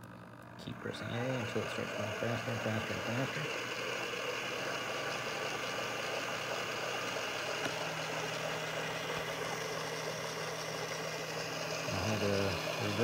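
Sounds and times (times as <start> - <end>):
low steady hum: 0.0 - 13.0
small motors whirring: 0.7 - 13.0.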